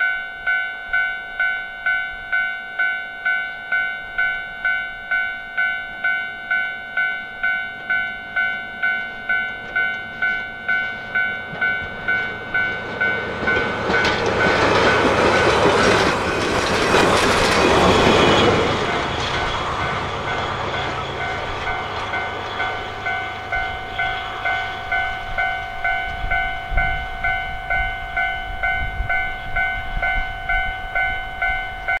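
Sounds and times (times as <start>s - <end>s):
repeating ringing tone: 0.0s - 15.8s, 17.7s - 32.0s
train passing: 0.9s - 32.0s.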